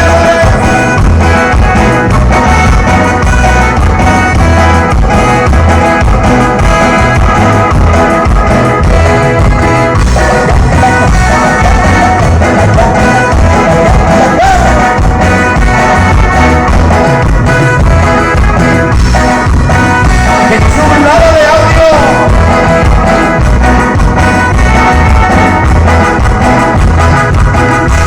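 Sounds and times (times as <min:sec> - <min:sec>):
latin dance music with brass: 0:00.0 - 0:28.0.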